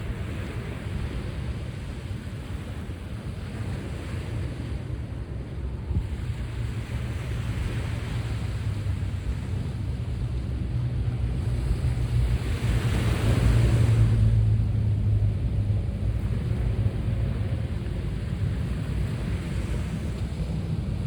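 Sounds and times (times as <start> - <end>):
sea waves washing onto shore: 0.0 - 21.0
wind buffeting microphone: 0.0 - 21.0.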